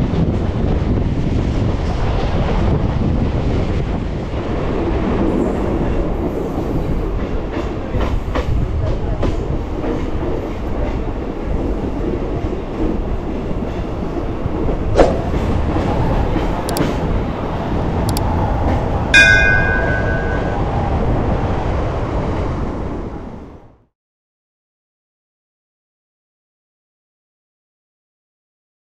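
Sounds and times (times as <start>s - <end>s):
train rumble and wheel clatter: 0.0s - 23.9s.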